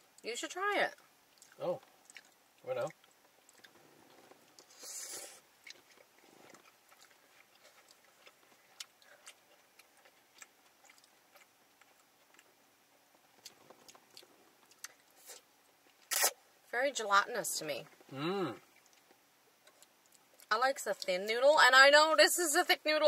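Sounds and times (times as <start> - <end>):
wet chewing mouth clicks: 0.9 - 16.4, 17.9 - 21.2.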